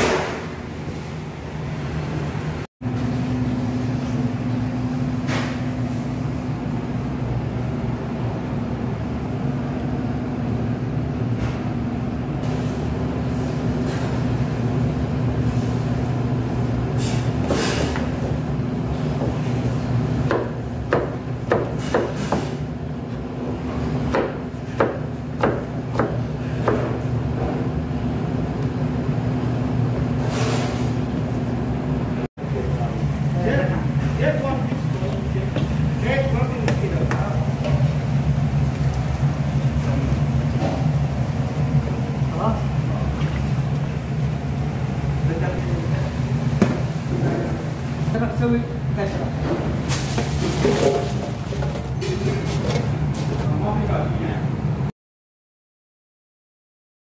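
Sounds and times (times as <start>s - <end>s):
kitchen ventilation hum: 0.0s - 54.9s.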